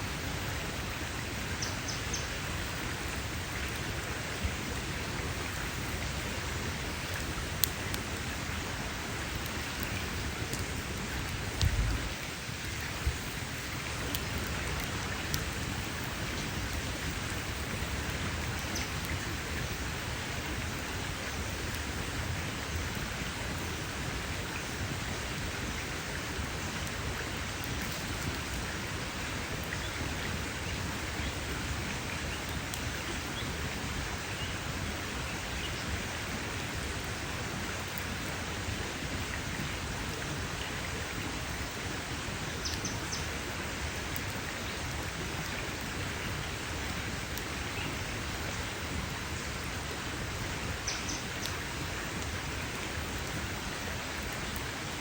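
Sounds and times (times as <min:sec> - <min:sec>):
campfire hissing: 0:00.0 - 0:55.0
fire crackles and pops: 0:00.0 - 0:55.0.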